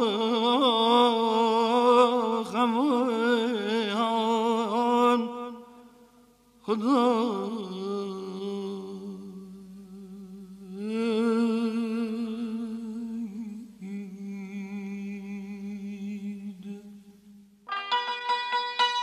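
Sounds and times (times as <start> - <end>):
man singing unaccompanied: 0.0 - 5.9, 6.6 - 17.4.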